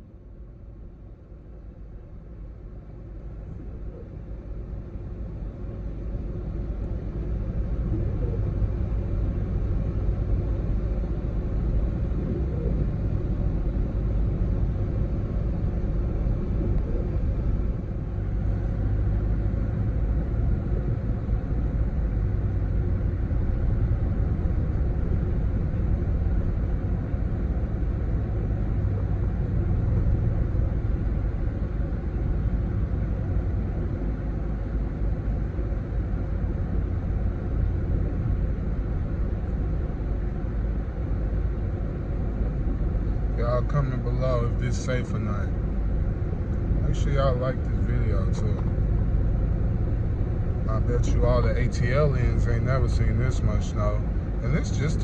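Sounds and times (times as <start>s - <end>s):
car cabin rumble: 3.3s - 55.0s.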